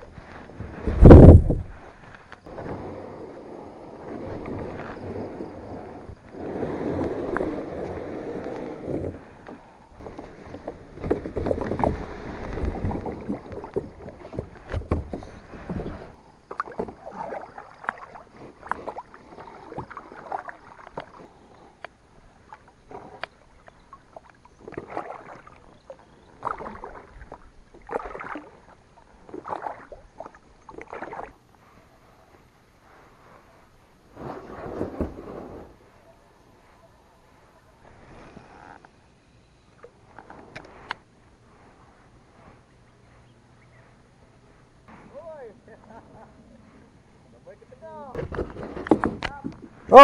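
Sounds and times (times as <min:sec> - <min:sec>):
paddle splashing water: 0:00.0 - 0:36.0, 0:44.9 - 0:50.0.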